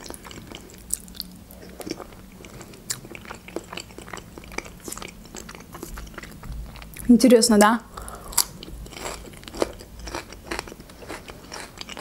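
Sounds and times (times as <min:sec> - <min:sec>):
close chewing of soft food: 0:00.0 - 0:07.1, 0:07.9 - 0:12.0.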